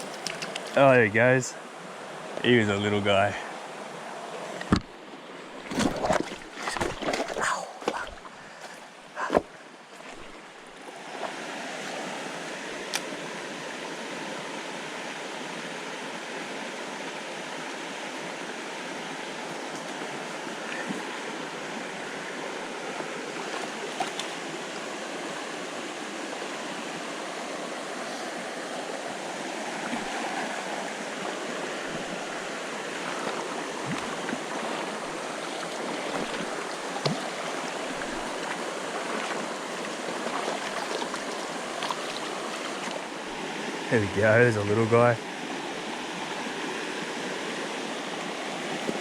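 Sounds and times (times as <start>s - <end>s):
creek water running: 0.0s - 49.0s.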